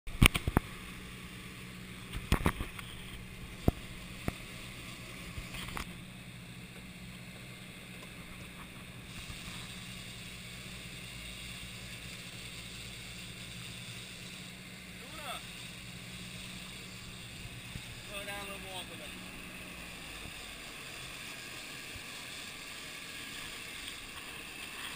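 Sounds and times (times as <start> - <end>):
outboard motor running: 0.1 - 24.9
water rushing in wake: 0.1 - 24.9.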